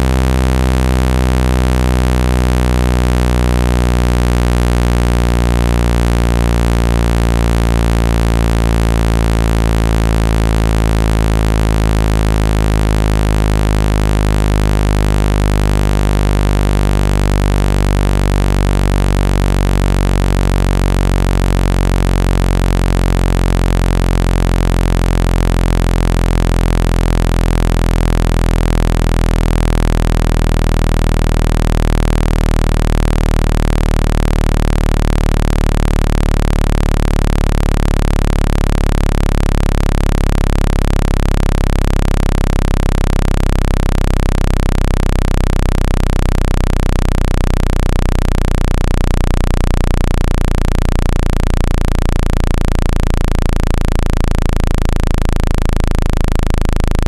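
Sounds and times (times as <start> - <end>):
low synthetic buzzing tone: 0.0 - 57.0.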